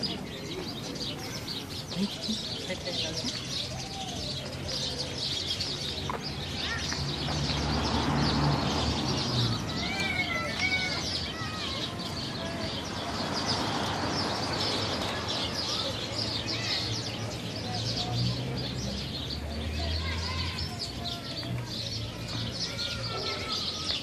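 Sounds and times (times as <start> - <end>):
murmur of voices: 0.0 - 24.0
small birds chirping: 0.0 - 24.0.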